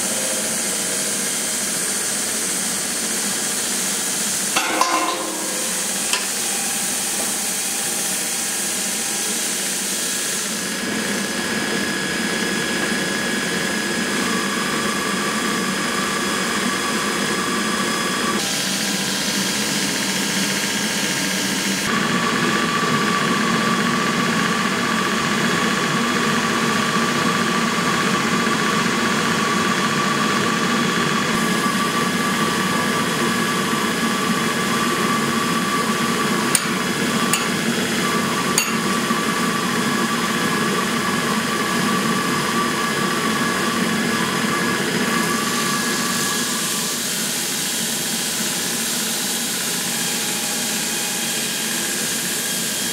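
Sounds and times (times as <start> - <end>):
machinery roar with whine: 0.0 - 52.9.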